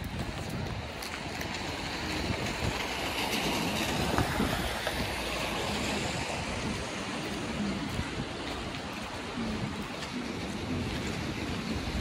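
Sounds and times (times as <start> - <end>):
city street noise: 0.0 - 12.0.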